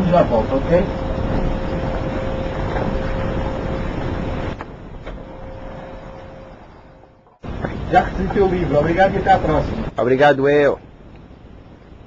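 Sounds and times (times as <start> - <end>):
faint steady hum: 0.0 - 12.0
outdoor background noise: 0.0 - 12.0.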